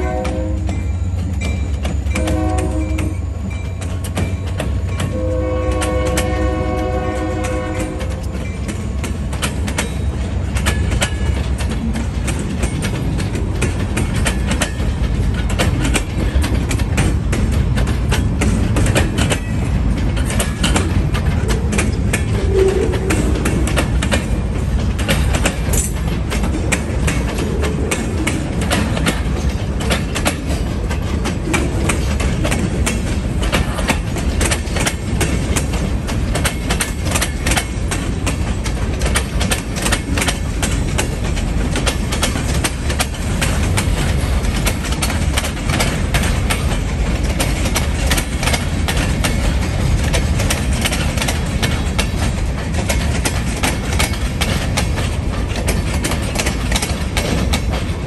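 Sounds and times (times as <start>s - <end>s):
clickety-clack over rail joints: 0.0s - 58.0s
wheels rumbling on rails: 0.0s - 58.0s.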